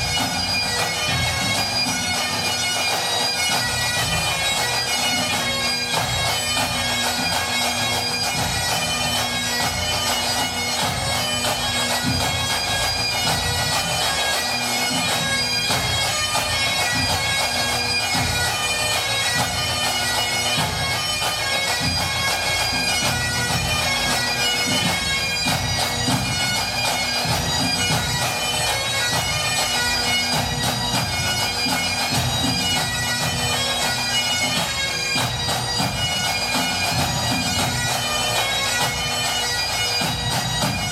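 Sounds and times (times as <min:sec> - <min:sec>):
bagpipe drones: 0:00.0 - 0:40.9
bagpipes playing a tune: 0:00.0 - 0:40.9.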